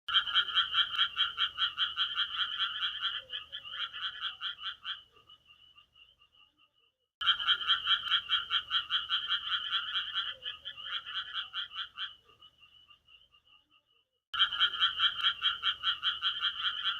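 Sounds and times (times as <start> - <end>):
frogs croaking in pulsed calls: 0.1 - 13.8, 14.4 - 16.9.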